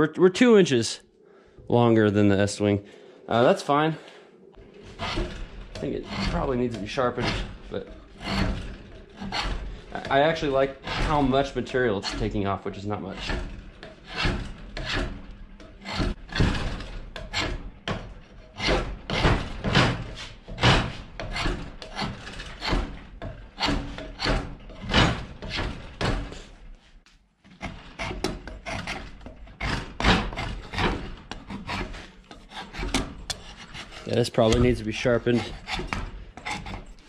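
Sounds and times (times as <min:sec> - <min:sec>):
rasp scraping wood: 0:04.6 - 0:26.6, 0:27.5 - 0:37.0.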